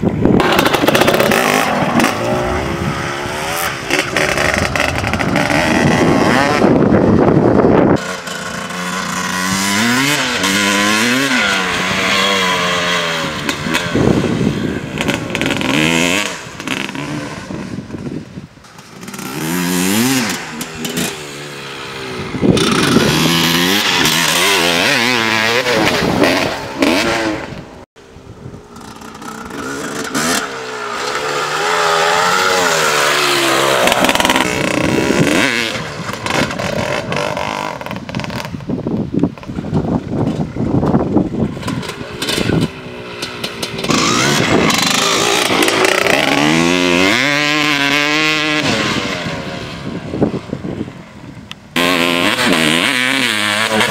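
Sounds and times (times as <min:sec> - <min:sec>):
two-stroke motorcycle engine revving: 0:00.0 - 0:27.9, 0:28.7 - 0:50.8, 0:51.7 - 0:53.9.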